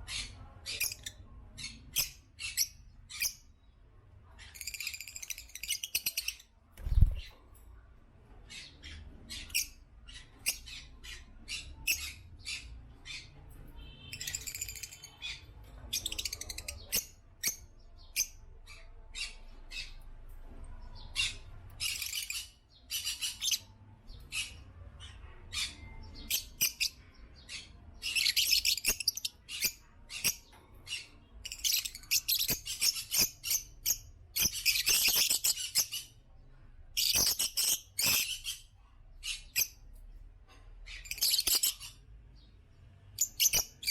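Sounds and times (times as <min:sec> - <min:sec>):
lovebirds chirping: 0:00.0 - 0:07.6, 0:08.4 - 0:20.1, 0:20.9 - 0:40.1, 0:40.8 - 0:43.9.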